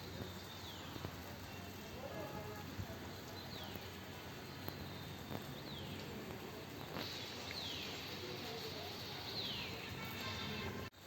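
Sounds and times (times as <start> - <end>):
rain hiss: 0.0 - 11.0.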